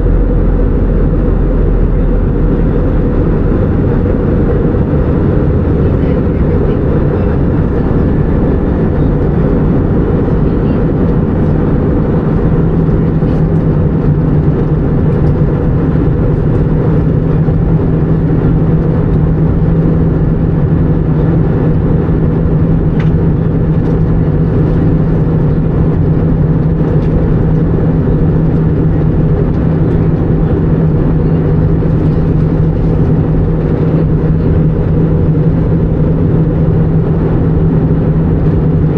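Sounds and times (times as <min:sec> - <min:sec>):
aircraft cabin engine roar: 0:00.0 - 0:38.9
low steady hum: 0:00.0 - 0:38.9.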